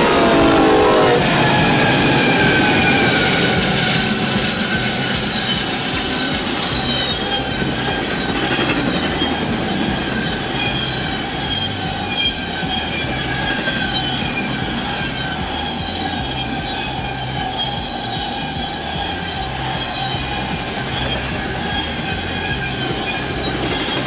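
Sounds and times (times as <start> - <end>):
train rumble: 0.0 - 24.0
train wheel squeal: 0.0 - 24.0.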